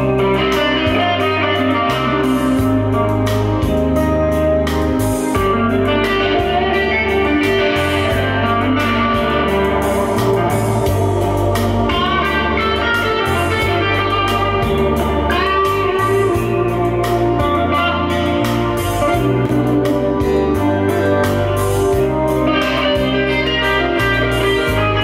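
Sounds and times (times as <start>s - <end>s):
guitar music over deep bass: 0.0s - 25.0s
sliding upward notes: 0.0s - 25.0s.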